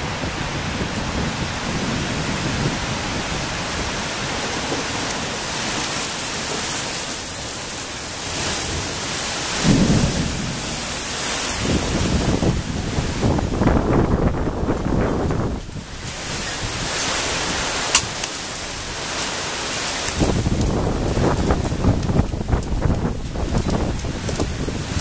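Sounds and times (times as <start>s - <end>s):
thunder rumble: 0.0s - 6.7s, 7.4s - 19.0s, 20.1s - 25.0s
heavy rain hissing: 0.0s - 25.0s.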